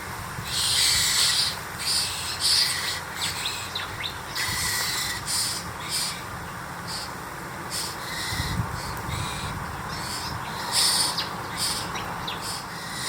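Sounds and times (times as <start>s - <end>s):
harsh rasping bird calls: 0.0s - 13.0s.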